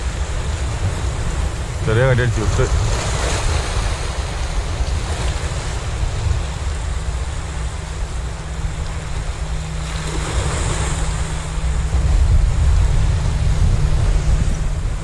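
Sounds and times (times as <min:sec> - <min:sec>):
small waves splashing over rocks: 0:00.0 - 0:12.1
wind buffeting microphone: 0:00.0 - 0:15.0.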